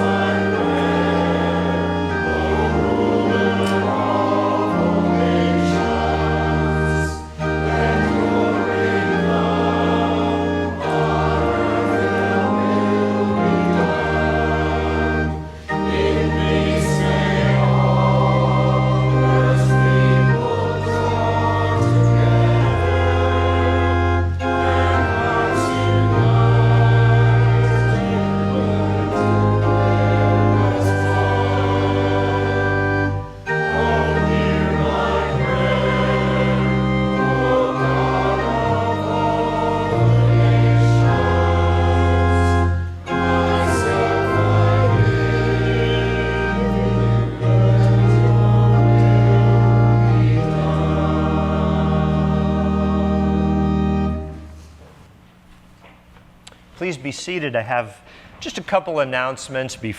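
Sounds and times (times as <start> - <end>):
voices singing a hymn: 0.0 - 54.7
pipe organ: 0.0 - 59.9.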